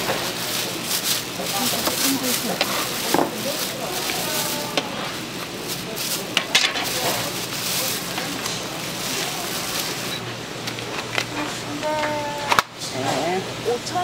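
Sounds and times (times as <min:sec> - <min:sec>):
crackling rustle: 0:00.0 - 0:11.6.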